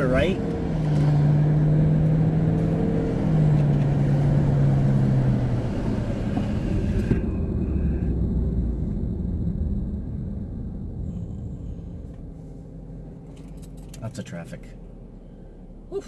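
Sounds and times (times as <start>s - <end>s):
engine hum: 0.0s - 16.0s
road and engine rumble in car: 0.0s - 16.0s.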